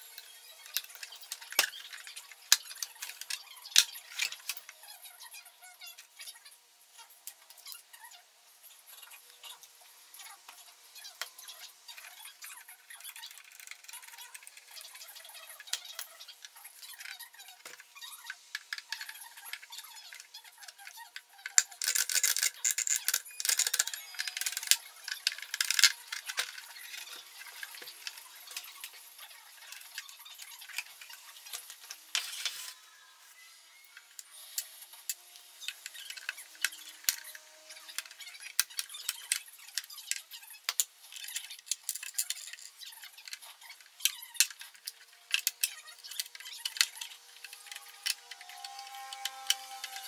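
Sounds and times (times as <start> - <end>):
screwdriver clicking and scraping plastic: 0.1 - 4.8, 11.9 - 32.7, 34.0 - 50.0.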